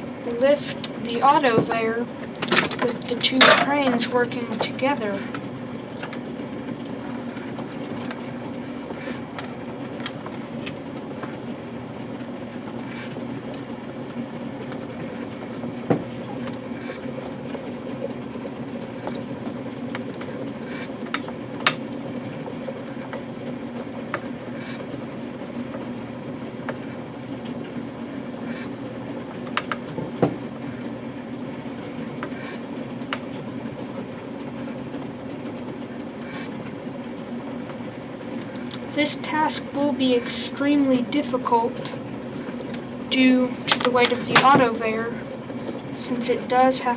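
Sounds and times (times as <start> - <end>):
toy trains humming: 0.0 - 46.9.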